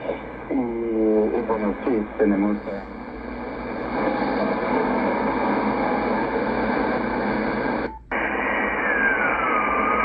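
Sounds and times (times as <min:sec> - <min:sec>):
radio static and hiss: 0:00.0 - 0:10.0.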